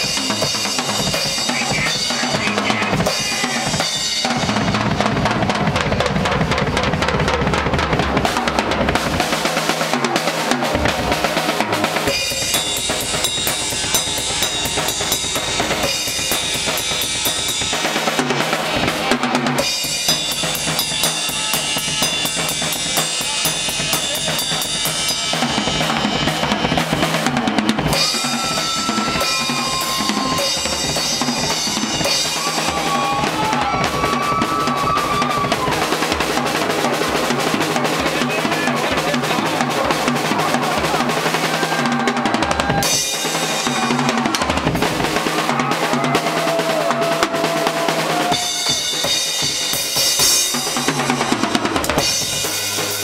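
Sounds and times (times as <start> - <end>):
kick and snare drum beat: 0.0 - 53.0
live funk band playing: 0.0 - 53.0.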